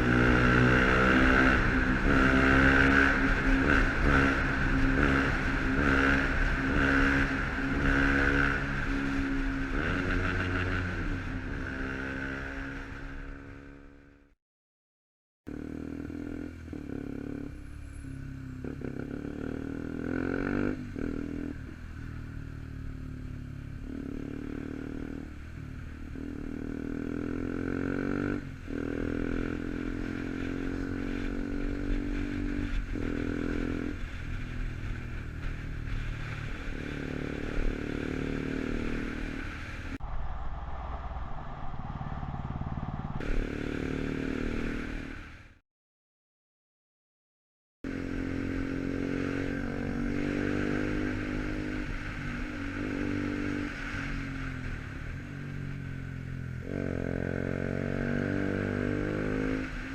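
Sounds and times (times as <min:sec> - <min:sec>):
motorcycle engine accelerating: 0:00.0 - 0:14.3, 0:15.5 - 0:45.6, 0:47.9 - 0:59.9.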